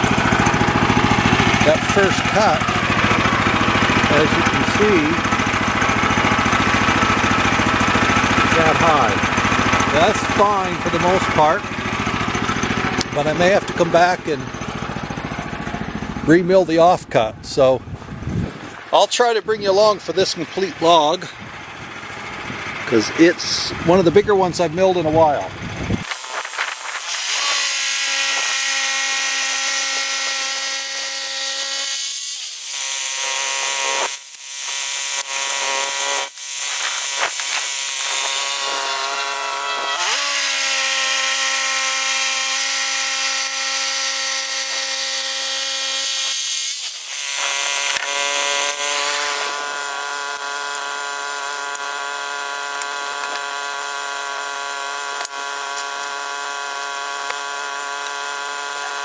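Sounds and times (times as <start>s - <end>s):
bandsaw mill sawing log: 0.0s - 17.7s, 18.7s - 59.0s.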